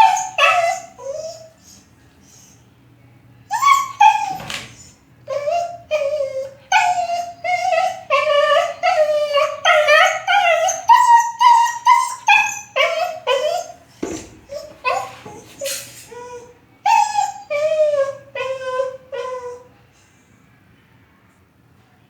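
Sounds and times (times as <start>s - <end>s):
dog giving high-pitched cries: 0.0s - 2.6s, 3.5s - 19.7s.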